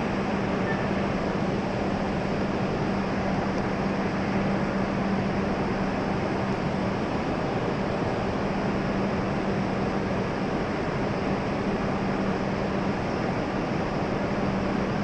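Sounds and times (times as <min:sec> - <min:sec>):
train humming: 0:00.0 - 0:15.0.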